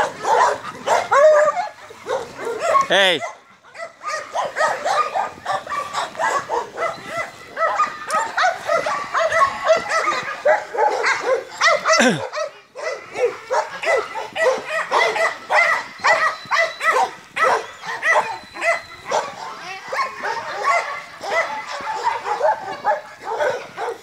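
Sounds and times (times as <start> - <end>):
dogs barking: 0.0 - 24.0.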